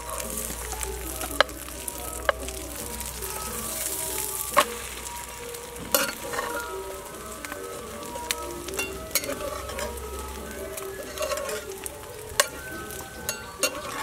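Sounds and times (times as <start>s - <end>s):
egg sizzling in oil: 0.0s - 14.0s.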